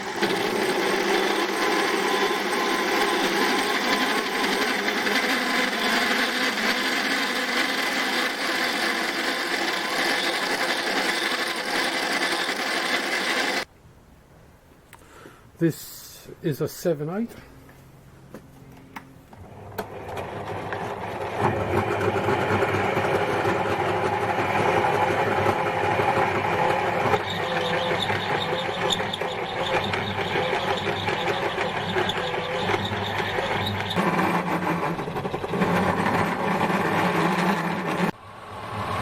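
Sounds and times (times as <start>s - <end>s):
drill bit boring aluminium: 0.0s - 13.7s, 20.1s - 38.2s
metal lathe running: 0.0s - 13.7s, 20.0s - 38.2s.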